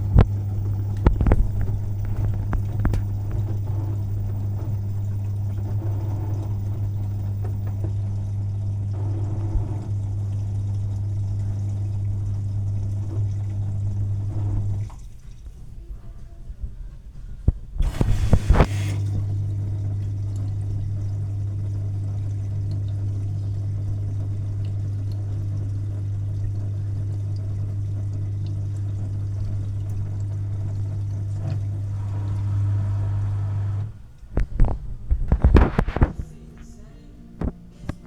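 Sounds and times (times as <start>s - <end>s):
water flowing: 0.0s - 15.7s, 17.8s - 34.3s
washing machine hum: 0.0s - 38.0s.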